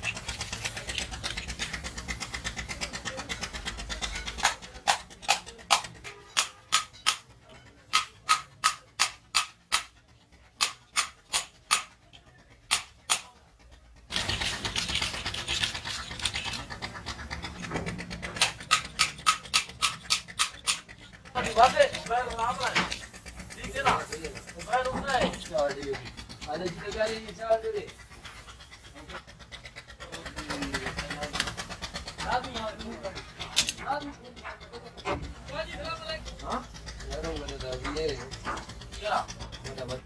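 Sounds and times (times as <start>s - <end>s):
hissy scraping: 0.0s - 40.0s
roller bearing clicking: 0.0s - 40.0s.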